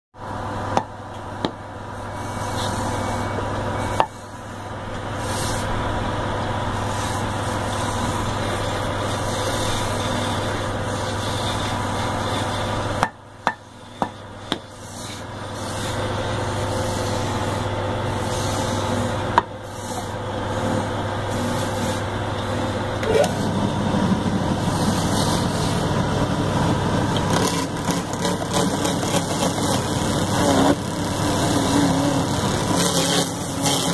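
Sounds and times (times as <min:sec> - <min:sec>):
wood lathe humming: 0:00.3 - 0:33.9
chisel scraping spinning wood: 0:00.8 - 0:05.8, 0:06.6 - 0:33.9.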